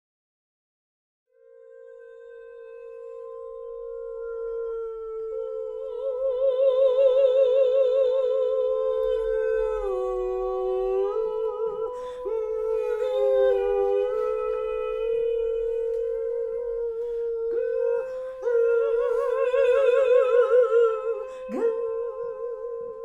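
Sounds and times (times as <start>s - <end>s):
voices holding long wordless notes: 1.4s - 23.0s.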